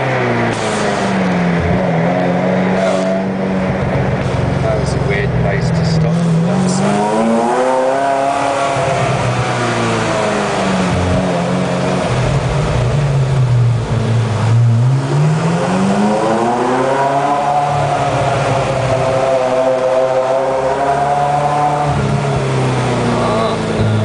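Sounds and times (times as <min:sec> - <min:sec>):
car engine from inside cabin: 0:00.0 - 0:24.0.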